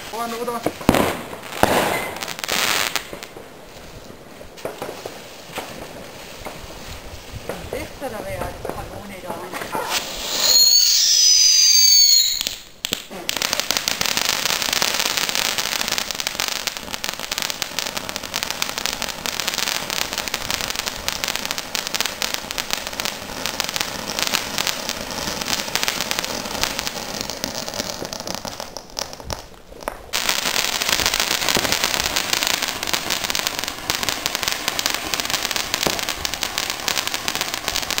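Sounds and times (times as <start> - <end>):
fireworks crackling hiss: 0.0 - 38.0.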